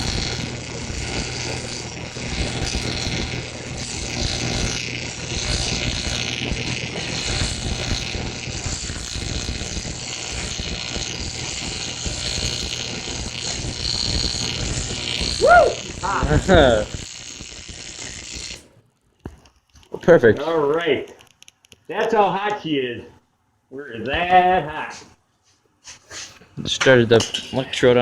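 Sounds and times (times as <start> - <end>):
arc welding crackling and buzzing: 0.0 - 22.7.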